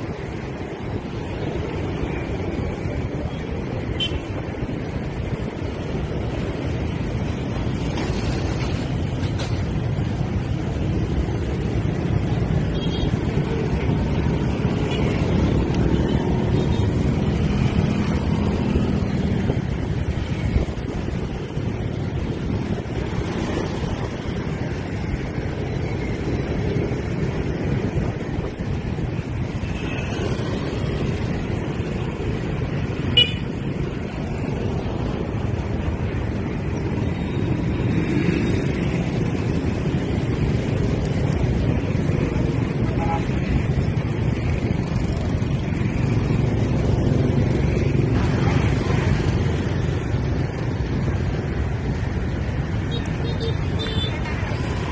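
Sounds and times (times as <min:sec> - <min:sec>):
scooter and motorbike engines: 0:00.0 - 0:54.9
street traffic noise: 0:00.0 - 0:54.9
wind noise on microphone: 0:00.0 - 0:54.9.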